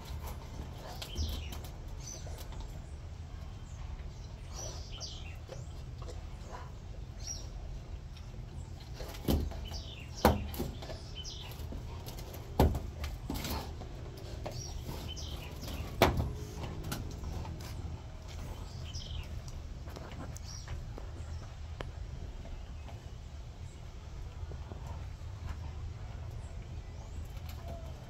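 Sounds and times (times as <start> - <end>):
low outdoor rumble: 0.0 - 28.0
small birds chirping: 0.0 - 28.0.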